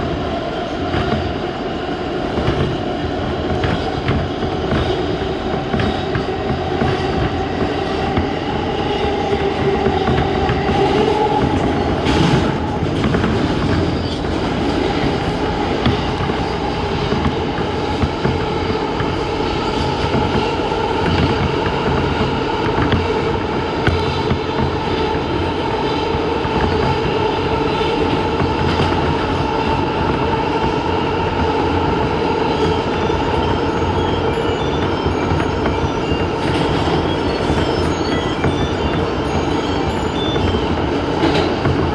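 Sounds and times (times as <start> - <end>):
train wheels rumbling on rail: 0.0 - 41.9
train whine: 0.0 - 41.9.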